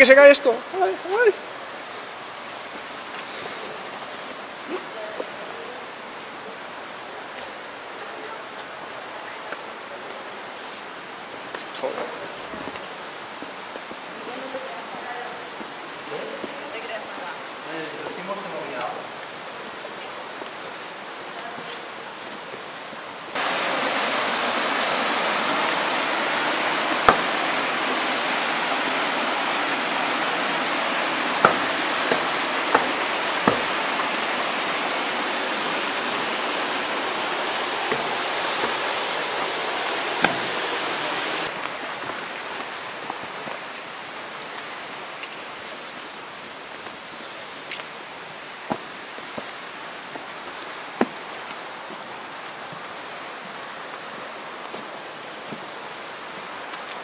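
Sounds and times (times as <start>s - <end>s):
river water rushing: 0.0s - 11.5s, 12.1s - 57.0s
quiet outdoor hiss: 0.0s - 57.0s.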